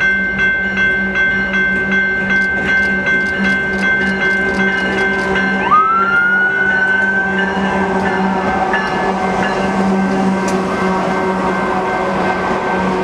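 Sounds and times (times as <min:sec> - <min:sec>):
diesel locomotive engines: 0:00.0 - 0:13.0
wheels rumbling on rail: 0:00.0 - 0:13.0.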